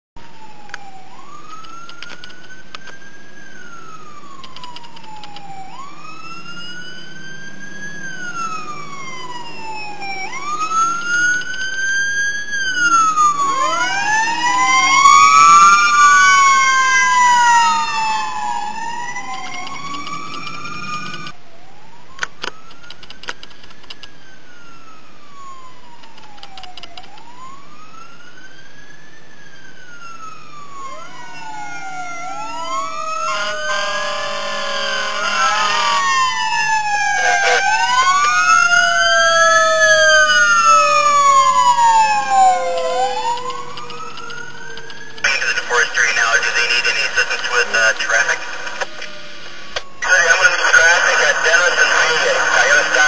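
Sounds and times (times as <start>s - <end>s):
engine and road rumble: 0.2s - 53.0s
fire engine sirens wailing: 0.2s - 53.0s.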